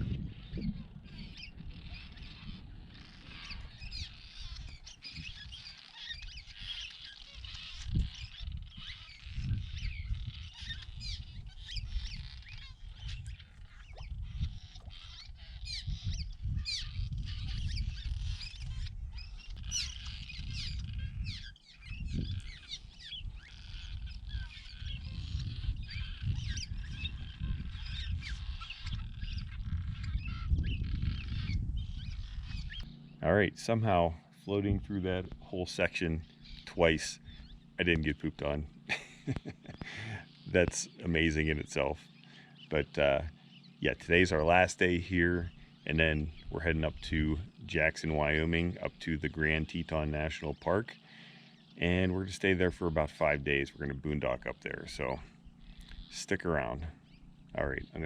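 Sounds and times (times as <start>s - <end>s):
swallows chirping: 0.0s - 58.0s.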